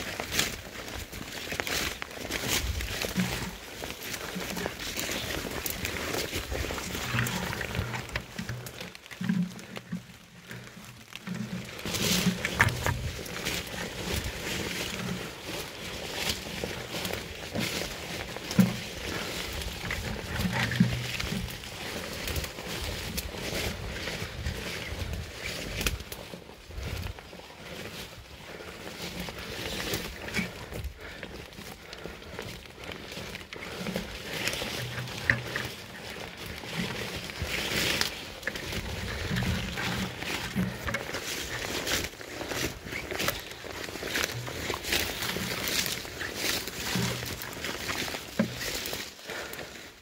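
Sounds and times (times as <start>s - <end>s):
footsteps on forest floor: 0.0s - 50.0s
leaves and stems rustling: 0.0s - 50.0s.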